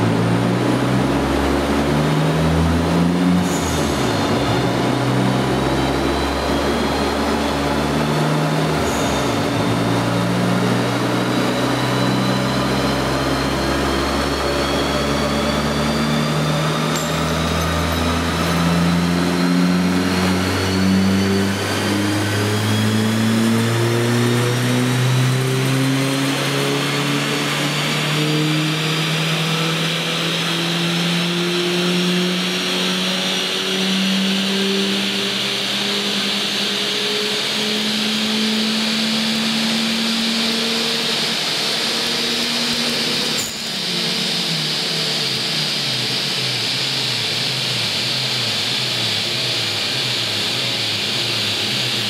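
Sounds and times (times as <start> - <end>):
engine and roller drone: 0.0 - 52.0
thin rising whine: 0.0 - 52.0.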